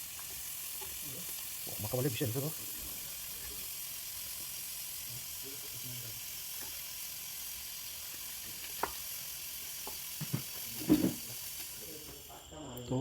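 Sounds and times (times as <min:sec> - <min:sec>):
fish frying in hot oil: 0:00.0 - 0:12.3.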